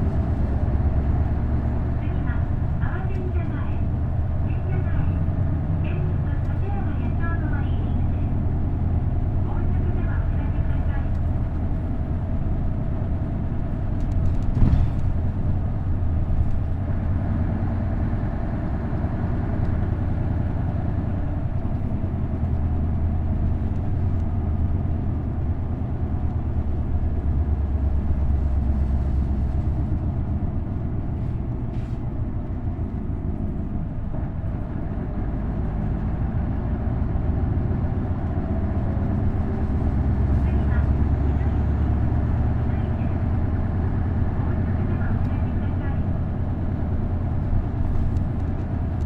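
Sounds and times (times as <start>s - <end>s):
bus engine drone: 0.0s - 49.0s
road noise: 0.0s - 49.0s.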